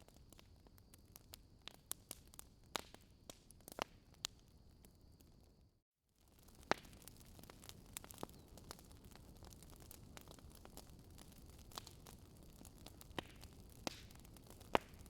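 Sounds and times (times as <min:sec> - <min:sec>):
wood fire crackling: 0:00.0 - 0:05.6, 0:06.2 - 0:15.0.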